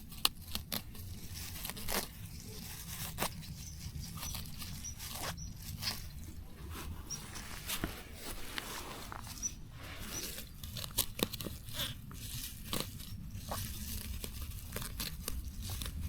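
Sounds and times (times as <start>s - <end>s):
plants being torn by hand: 0.0s - 16.0s.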